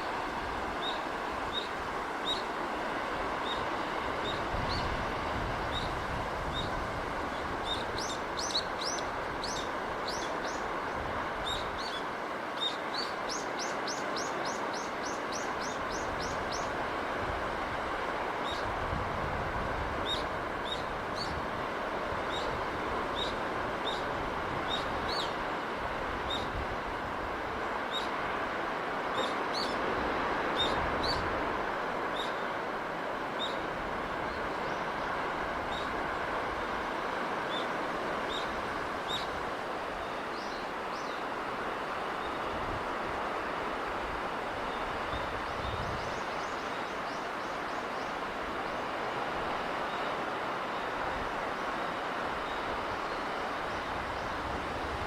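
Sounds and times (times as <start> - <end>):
sea breeze rushing: 0.0 - 55.0.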